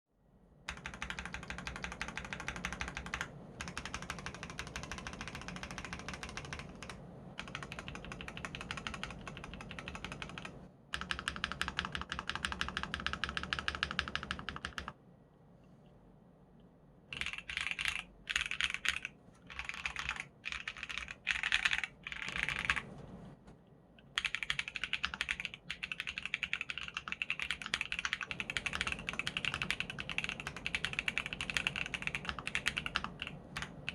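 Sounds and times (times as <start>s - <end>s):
mechanical keyboard typing: 0.7s - 15.0s, 17.1s - 22.9s, 24.0s - 33.9s.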